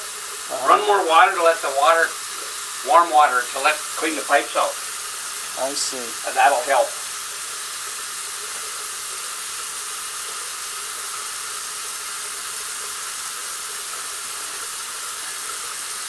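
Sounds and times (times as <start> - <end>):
faucet water running into sink: 0.0 - 16.0.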